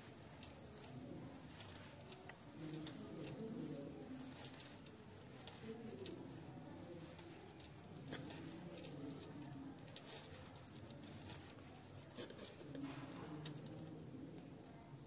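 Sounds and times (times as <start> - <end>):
yarn and crochet hook rustling: 0.0 - 13.9.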